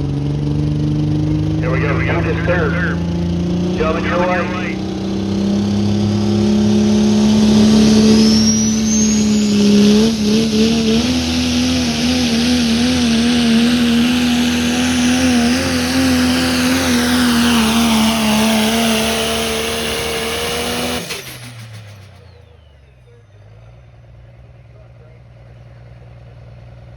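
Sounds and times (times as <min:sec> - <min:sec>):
truck engine at high revs: 0:00.0 - 0:26.9.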